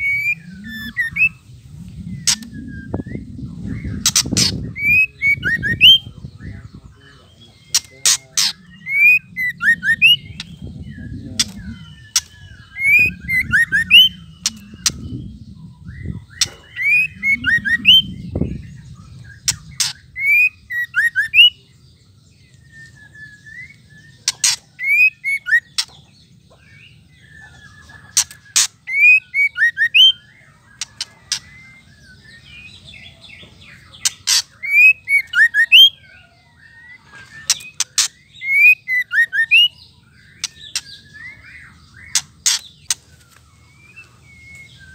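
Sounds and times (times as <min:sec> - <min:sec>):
bird chirping: 0:00.0 - 0:44.9.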